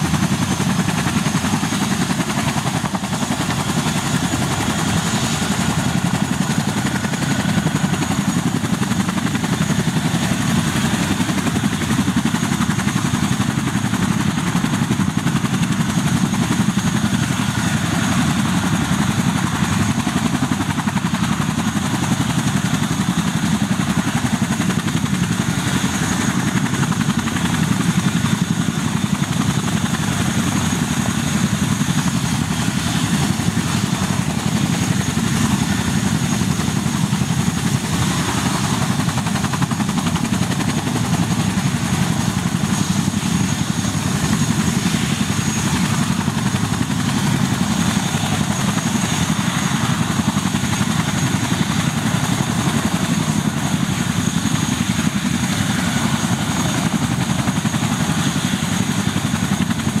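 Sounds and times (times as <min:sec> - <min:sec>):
helicopter rotor rumble: 0:00.0 - 1:00.0.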